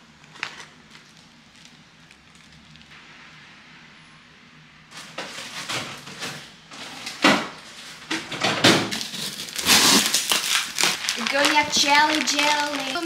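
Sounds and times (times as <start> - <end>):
plastic and cardboard rustling: 0.3 - 2.9, 4.9 - 13.0.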